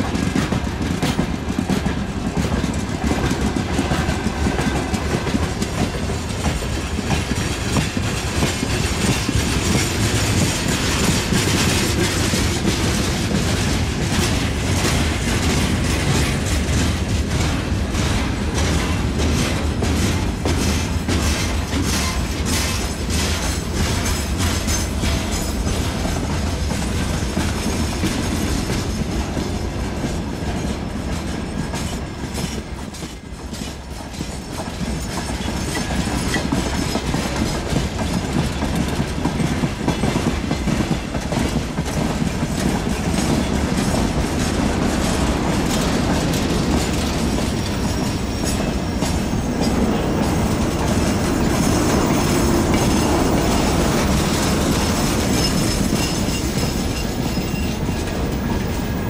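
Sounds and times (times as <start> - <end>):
freight train rumble: 0.0 - 59.0
train wheels clicking over rail joints: 0.0 - 59.0.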